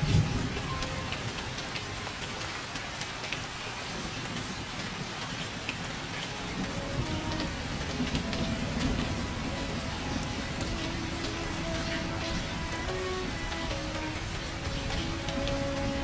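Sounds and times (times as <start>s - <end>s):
raindrops tapping: 0.0s - 16.0s
soft rain: 0.0s - 16.0s.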